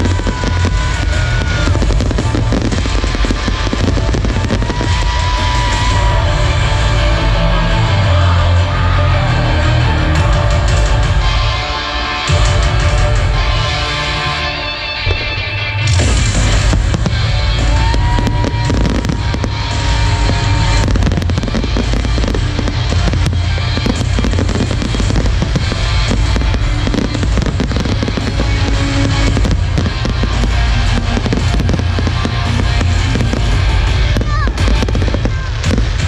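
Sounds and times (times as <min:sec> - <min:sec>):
fireworks bangs and cracks: 0:00.0 - 0:36.0
loud music: 0:00.0 - 0:36.0.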